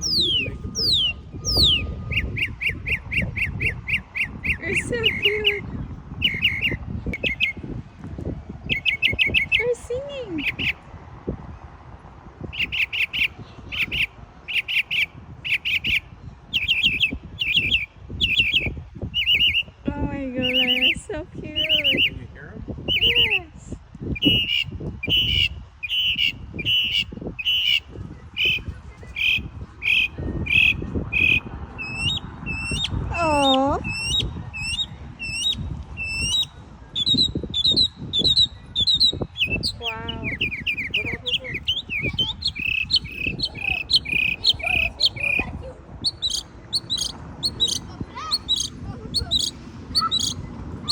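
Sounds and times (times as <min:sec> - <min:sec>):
lower-pitched bird call: 0:00.0 - 0:07.6, 0:08.7 - 0:10.8, 0:12.5 - 0:19.8, 0:20.4 - 0:21.0, 0:22.9 - 0:23.4, 0:24.2 - 0:50.9
songbird singing: 0:00.0 - 0:07.8, 0:08.5 - 0:11.6, 0:12.4 - 0:50.9.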